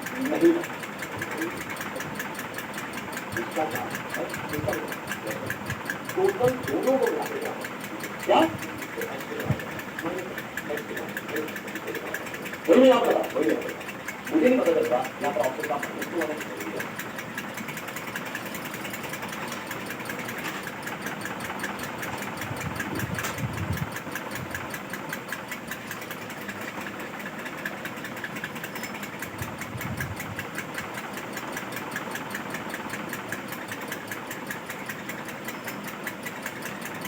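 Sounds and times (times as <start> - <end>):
small motor running: 0.0 - 37.0.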